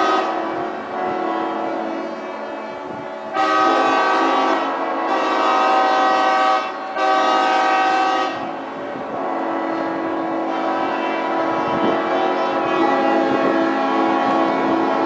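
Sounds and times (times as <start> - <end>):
boat horns blasting: 0.0 - 15.0.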